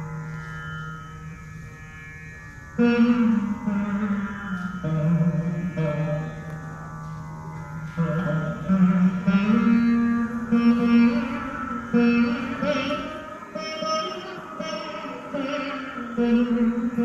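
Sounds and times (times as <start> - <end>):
plucked veena notes: 0.0 - 17.0.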